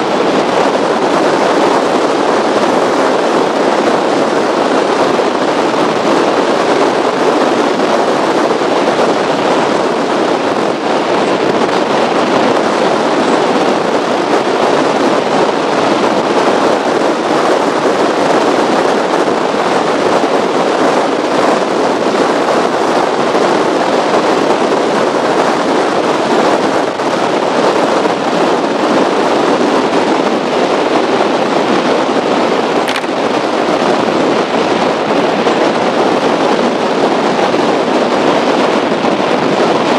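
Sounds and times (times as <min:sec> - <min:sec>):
speedboat engine: 0:00.0 - 0:39.9
wind buffeting microphone: 0:00.0 - 0:39.9.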